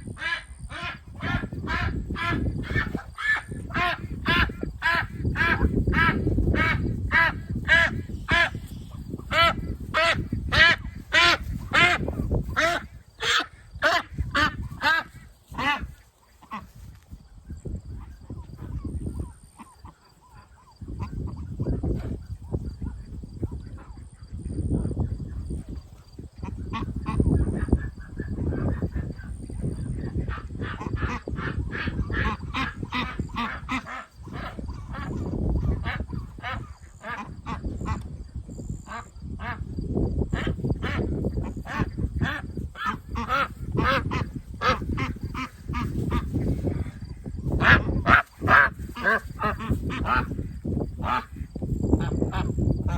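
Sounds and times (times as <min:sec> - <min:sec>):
ducks quacking: 0:00.0 - 0:24.4, 0:25.2 - 0:38.2, 0:38.8 - 0:52.9.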